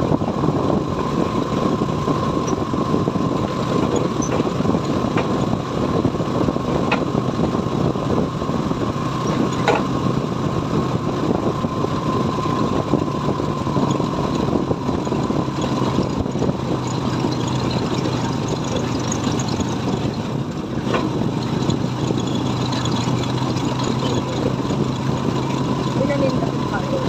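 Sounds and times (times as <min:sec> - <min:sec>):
motorcycle engine cruising: 0:00.0 - 0:27.0
wind and road noise: 0:00.0 - 0:27.0.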